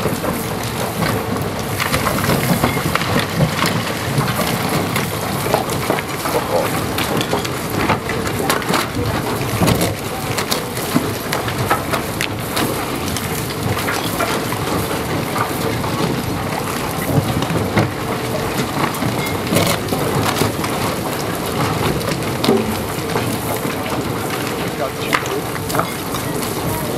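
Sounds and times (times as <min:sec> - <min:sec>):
concrete cracking and falling: 0:00.0 - 0:26.9
tunnel boring machine rumble: 0:00.0 - 0:26.9.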